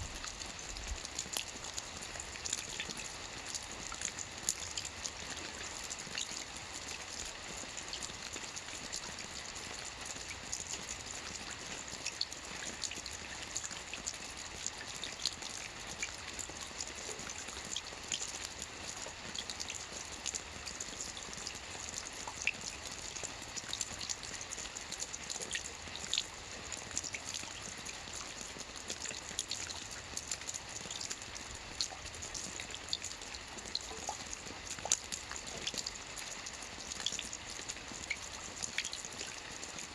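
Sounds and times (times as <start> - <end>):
rain on water: 0.0 - 39.9.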